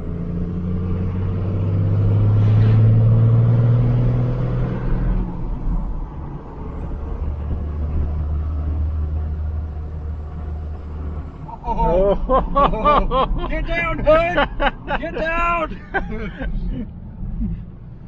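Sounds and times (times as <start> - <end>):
diesel truck engine pulling hard: 0.0 - 18.0.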